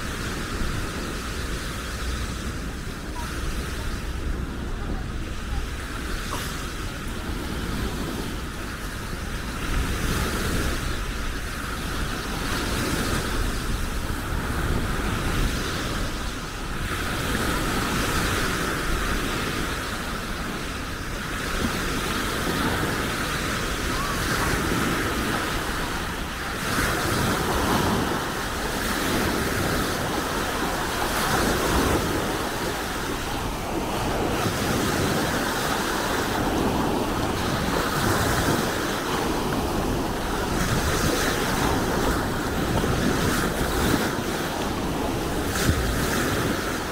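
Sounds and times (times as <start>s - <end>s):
surf washing onto beach: 0.0s - 46.9s
wind rumbling on microphone: 0.0s - 46.9s.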